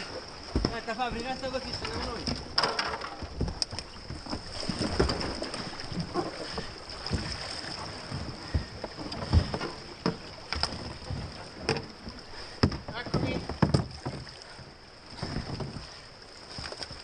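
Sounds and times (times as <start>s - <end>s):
dull knocks of paddle and hull: 0.0s - 17.0s
kayak paddle strokes and splashes: 0.0s - 17.0s
river water rushing: 0.0s - 17.0s.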